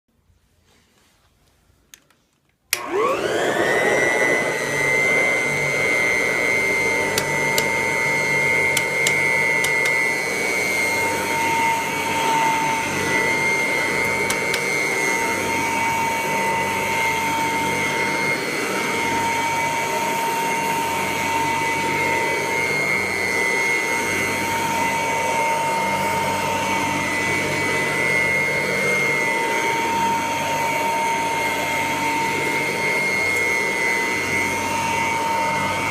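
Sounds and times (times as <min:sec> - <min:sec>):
vacuum cleaner motor whine: 0:02.7 - 0:35.9.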